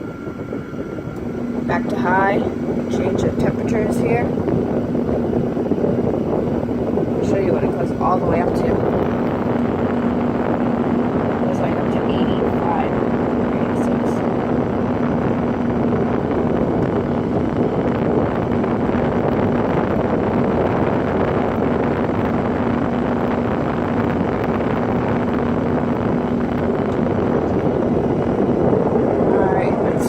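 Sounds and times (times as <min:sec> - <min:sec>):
air conditioner humming: 0:00.0 - 0:30.0.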